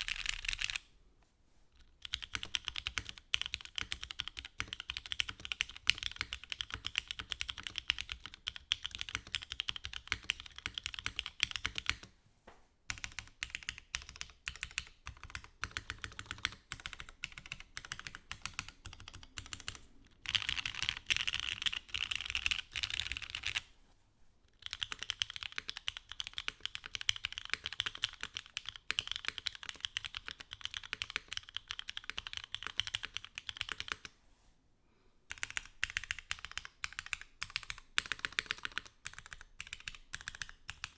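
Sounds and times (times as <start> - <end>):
mechanical keyboard typing: 0.0 - 0.8, 2.0 - 12.1, 12.9 - 23.7, 24.6 - 34.1, 35.3 - 40.9.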